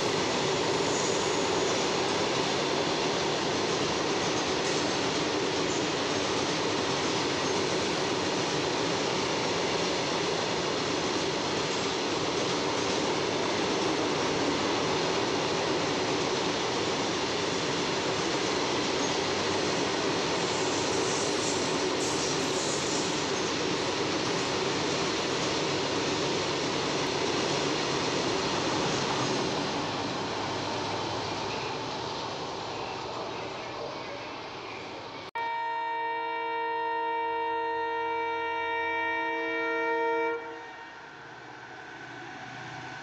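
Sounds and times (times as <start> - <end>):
train wheels rumbling on rails: 0.0 - 35.3.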